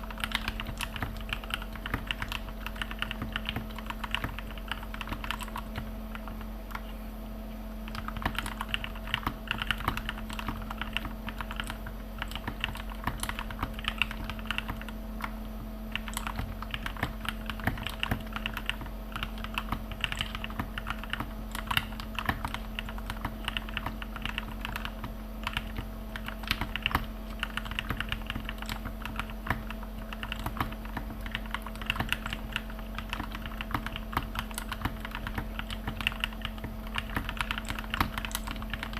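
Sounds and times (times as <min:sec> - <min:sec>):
soft keyboard keystroke clacks: 0:00.0 - 0:07.0, 0:07.9 - 0:38.9
steady low hum: 0:00.0 - 0:38.9.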